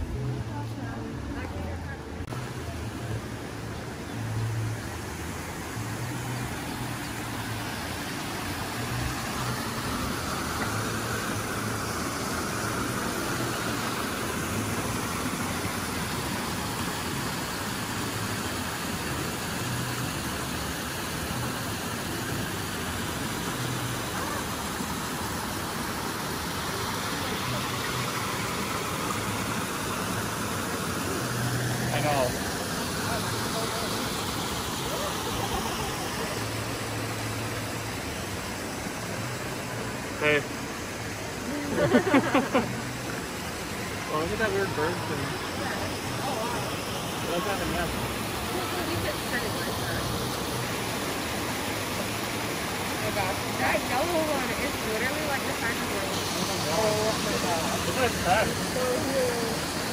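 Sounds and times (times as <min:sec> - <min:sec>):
small waterfall spilling over rocks: 0:02.2 - 0:59.9.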